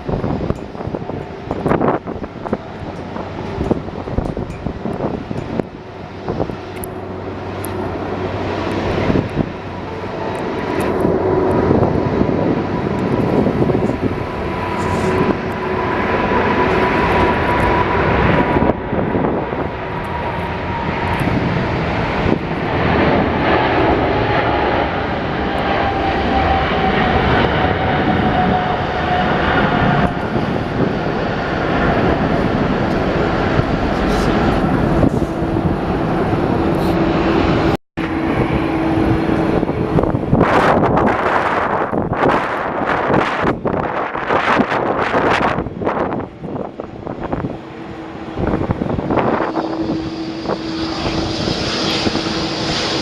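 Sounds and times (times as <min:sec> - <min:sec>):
jet airliner passing: 0:00.0 - 0:53.0.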